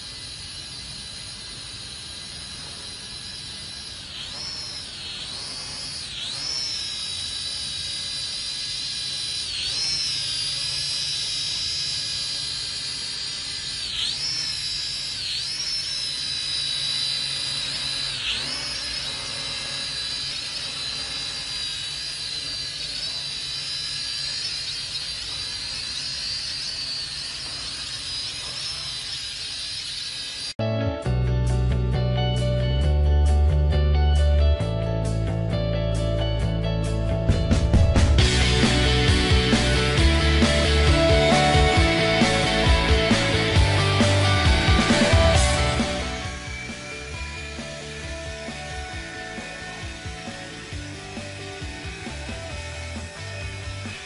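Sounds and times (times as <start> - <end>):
toy drone motors whining: 0.0 - 30.6, 37.7 - 54.0.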